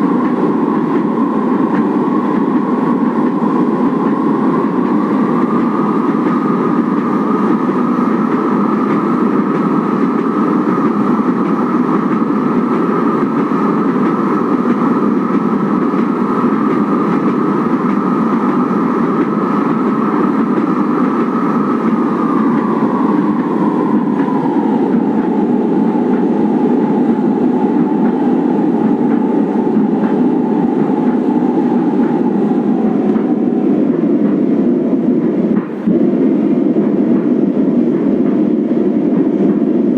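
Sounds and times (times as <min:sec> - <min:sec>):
train motor whine: 0:00.0 - 0:36.3
train wheels rumbling on track: 0:00.0 - 0:39.9.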